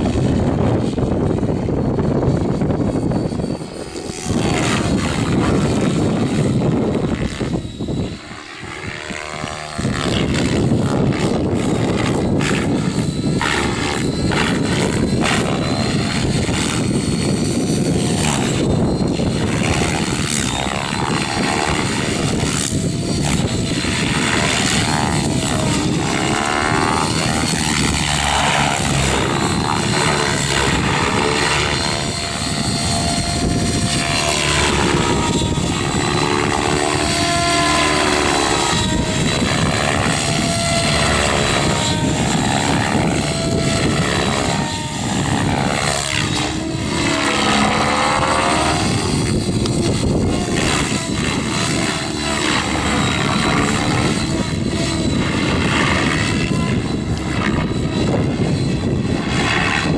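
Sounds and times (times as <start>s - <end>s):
model helicopter rotor swish and whine: 0.0s - 59.9s.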